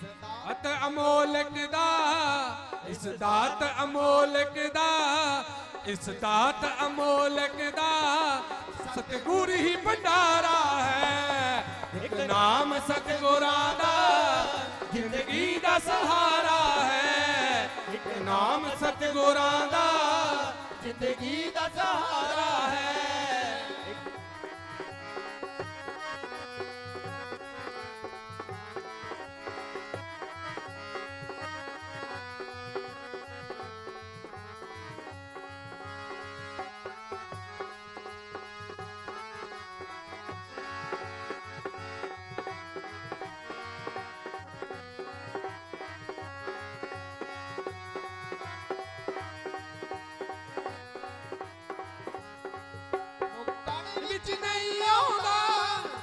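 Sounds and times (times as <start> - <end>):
dholak drum beat: 0.0 - 56.0
harmonium melody: 0.0 - 56.0.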